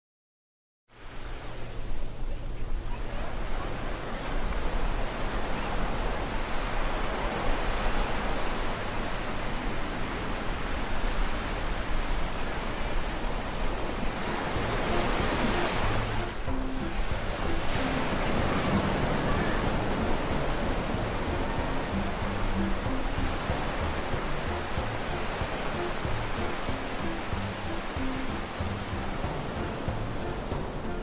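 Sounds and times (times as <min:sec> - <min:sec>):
waves washing on sandy beach: 0:00.9 - 0:31.0.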